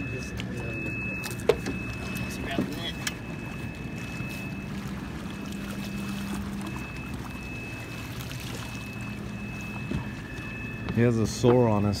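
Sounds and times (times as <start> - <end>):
boat motor hum: 0.0 - 12.0
water splashing and trickling: 0.0 - 12.0.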